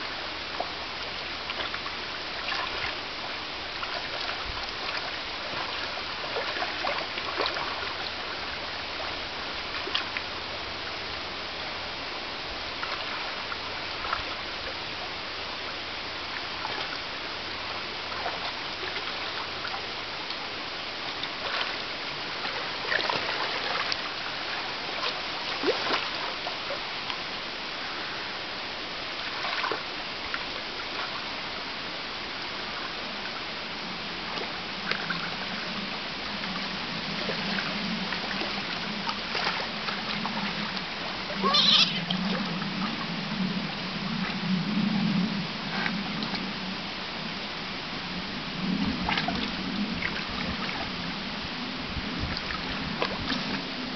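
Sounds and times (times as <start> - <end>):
stream running over rocks: 0.0 - 44.5, 45.4 - 53.9.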